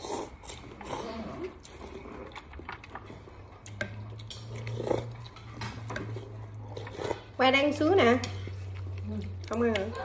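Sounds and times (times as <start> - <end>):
man chewing: 0.0 - 7.4, 8.4 - 10.0.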